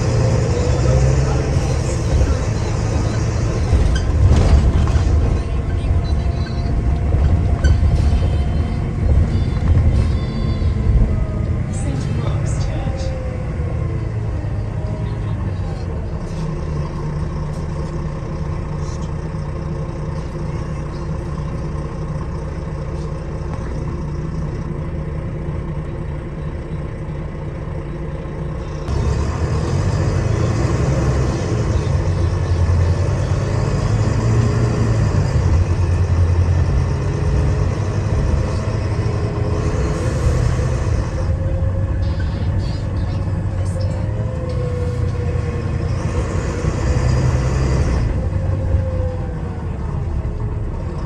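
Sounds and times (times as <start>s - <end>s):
bus diesel engine running: 0.0s - 51.0s.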